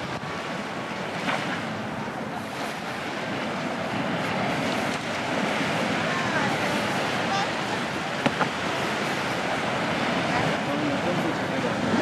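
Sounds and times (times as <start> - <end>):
sea waves breaking: 0.0 - 12.0.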